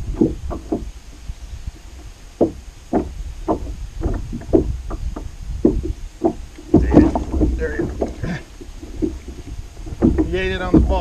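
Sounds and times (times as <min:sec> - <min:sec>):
wind rumble on microphone: 0:00.0 - 0:11.0
hollow knocks on plastic hull: 0:01.9 - 0:11.0.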